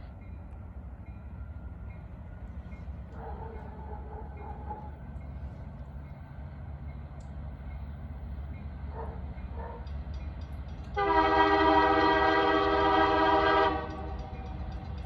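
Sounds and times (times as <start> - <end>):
diesel locomotive rumbling past: 0.0 - 15.0.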